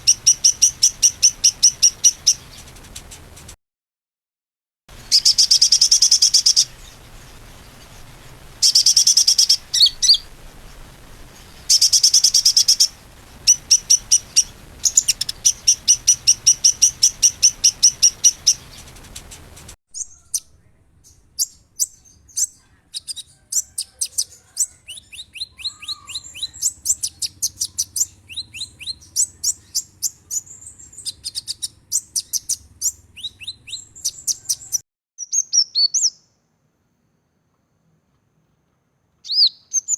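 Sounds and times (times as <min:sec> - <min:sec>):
birds singing buzzy trills: 0:00.0 - 0:03.6, 0:04.9 - 0:36.3.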